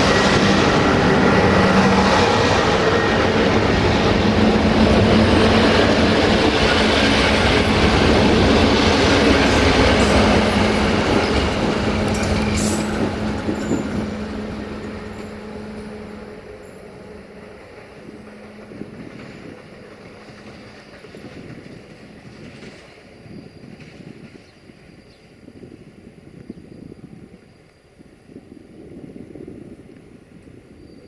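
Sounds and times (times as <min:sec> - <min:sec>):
train wheels passing: 0:00.0 - 0:25.8.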